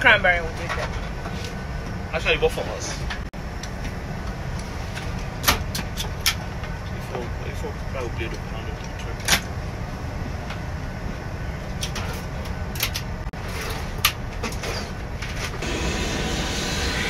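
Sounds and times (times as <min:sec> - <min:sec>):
jet cabin rumble: 0:00.0 - 0:17.0.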